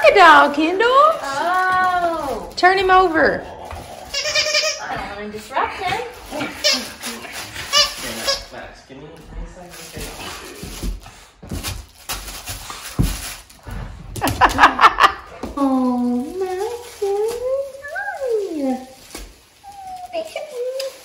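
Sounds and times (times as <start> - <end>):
rustling on rug: 0.0 - 21.0.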